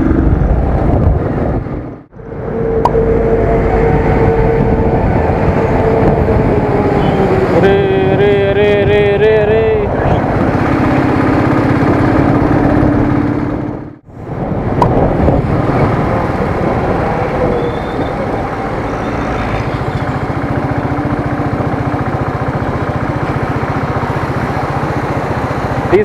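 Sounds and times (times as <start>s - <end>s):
wind noise on microphone: 0.0s - 25.8s
motorcycle engine running: 2.4s - 14.1s, 14.9s - 26.0s.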